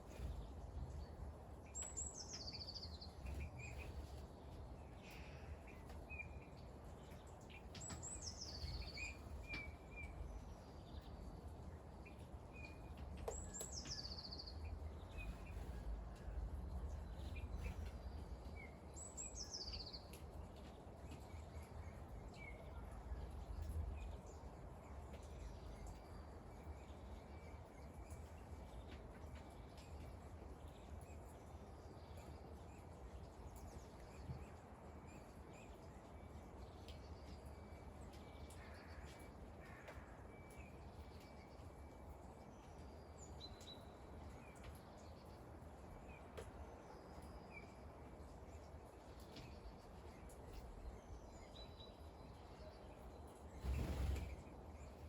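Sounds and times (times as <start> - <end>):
low rumble of background noise: 0.0 - 55.0.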